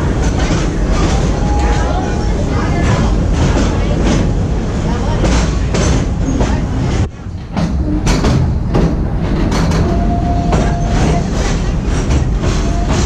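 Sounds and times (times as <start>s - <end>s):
train rumbling: 0.0s - 13.0s
wheels clacking over rails: 0.0s - 13.0s.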